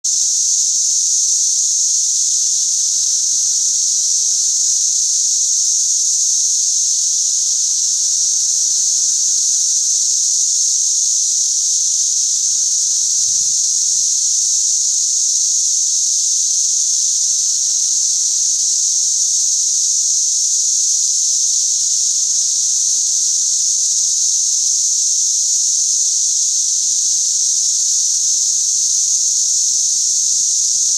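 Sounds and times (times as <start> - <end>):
cicadas chorus: 0.0 - 30.9.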